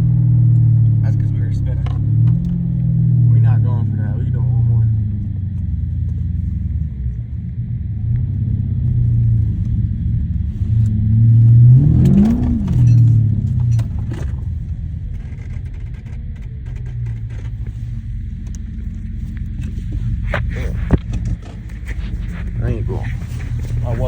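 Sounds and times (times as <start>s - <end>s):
car engine droning: 0.0s - 24.0s.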